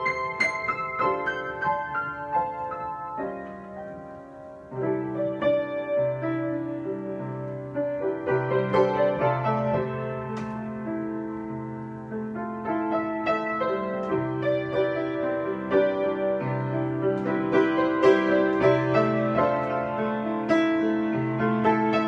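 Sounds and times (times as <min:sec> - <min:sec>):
piano improvisation: 0:00.0 - 0:22.0.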